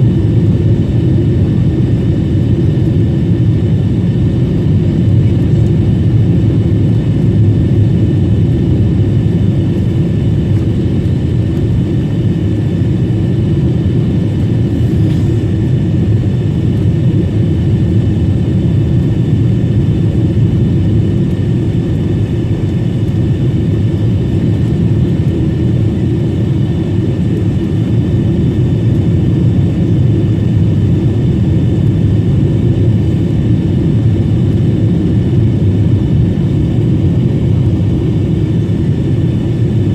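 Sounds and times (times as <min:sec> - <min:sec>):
airliner engines and airflow rumble: 0:00.0 - 0:39.9
faint steady whines: 0:00.0 - 0:39.9.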